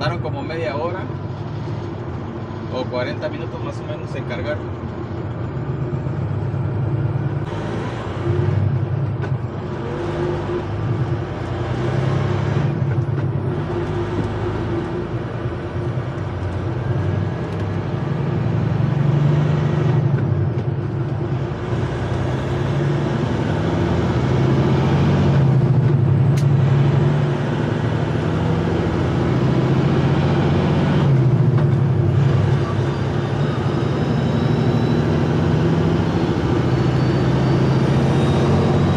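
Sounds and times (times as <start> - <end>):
truck diesel engine and road noise: 0.0 - 38.9.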